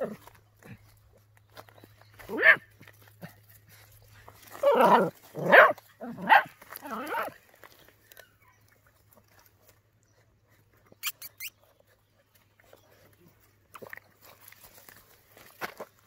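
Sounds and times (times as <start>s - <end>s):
puppy rustling and chewing in mulch: 0.0s - 16.0s.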